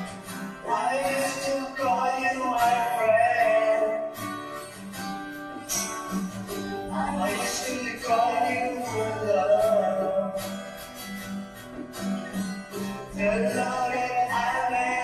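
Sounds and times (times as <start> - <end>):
rock song with guitar: 0.0 - 15.0.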